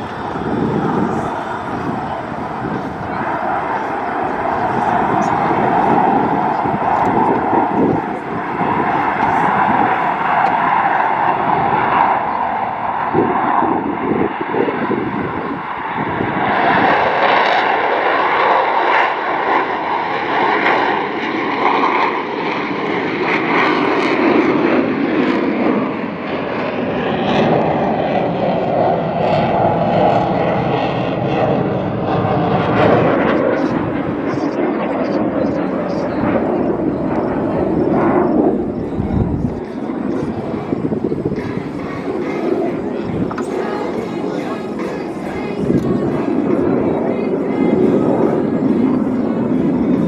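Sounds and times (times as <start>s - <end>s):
jet engine noise with whine: 0.0s - 50.0s.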